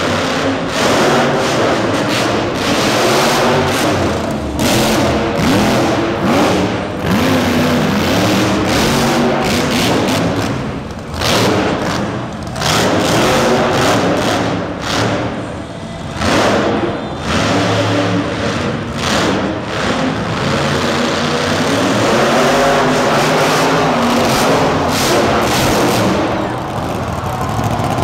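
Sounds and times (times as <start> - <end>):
monster truck engine revving: 0.0 - 28.0.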